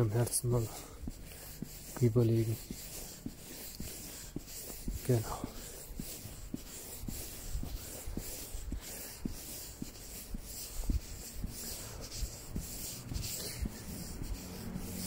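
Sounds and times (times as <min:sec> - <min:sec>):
footsteps walking: 0:00.0 - 0:15.0
jacket rustling on microphone: 0:00.0 - 0:15.0.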